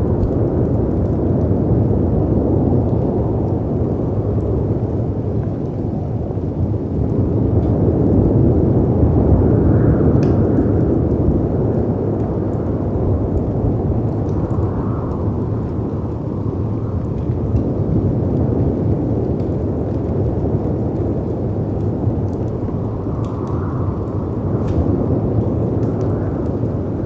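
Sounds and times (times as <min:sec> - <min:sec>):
wind and sea rumble: 0:00.0 - 0:27.0
wood fire crackling: 0:00.0 - 0:27.0.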